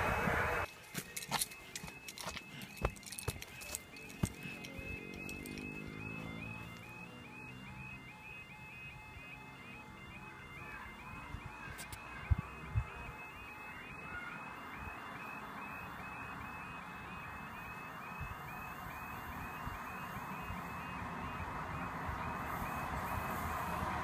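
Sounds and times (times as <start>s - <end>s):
level crossing alarm tone: 0.0s - 24.0s.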